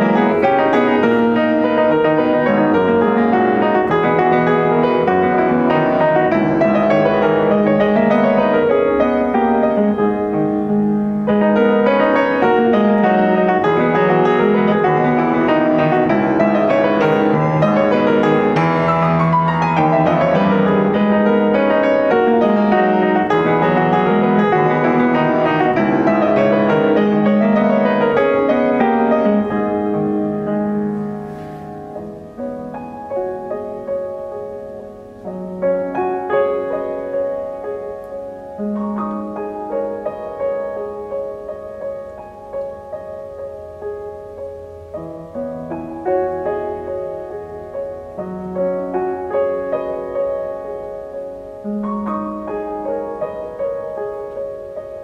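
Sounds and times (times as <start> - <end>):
solo grand piano: 0.0 - 55.0.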